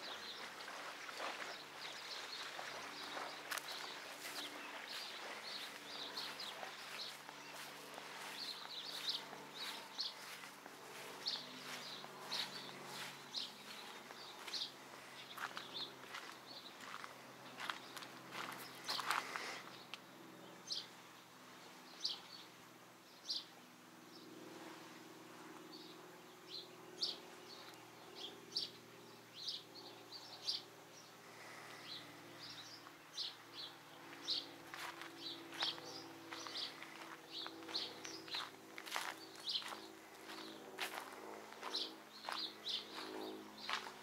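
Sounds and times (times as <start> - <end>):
small birds chirping: 0.0 - 21.0, 21.6 - 44.0
faint low hum: 0.0 - 44.0.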